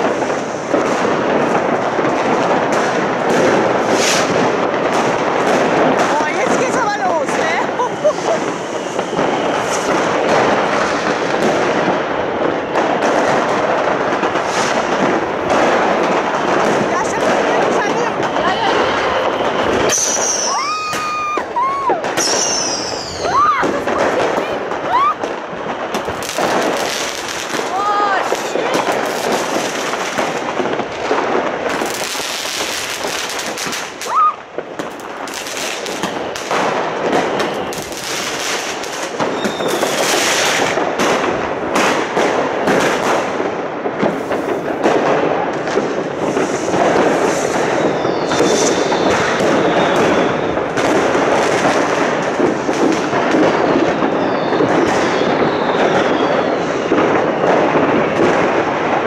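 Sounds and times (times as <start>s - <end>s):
fireworks crackling and banging: 0.0s - 59.0s
whistling rockets: 0.0s - 59.0s.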